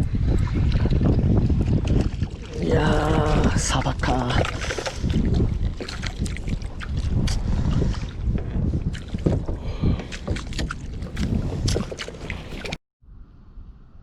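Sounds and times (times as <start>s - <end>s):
water slapping against hull: 0.0s - 12.8s
wind buffeting microphone: 0.0s - 14.0s.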